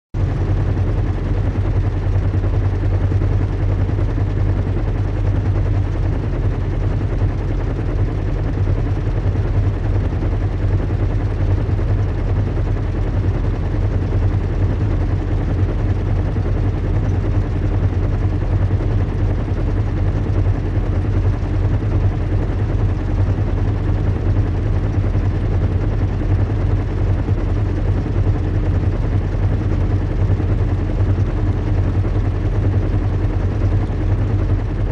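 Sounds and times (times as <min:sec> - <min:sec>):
airship engine rumble and hum: 0:00.2 - 0:34.9.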